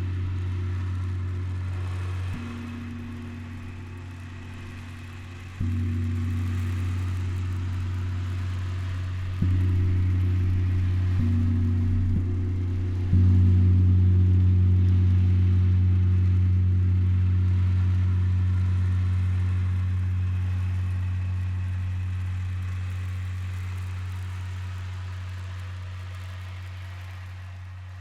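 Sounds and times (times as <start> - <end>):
deep struck instrument tone ringing: 0.0 - 23.9.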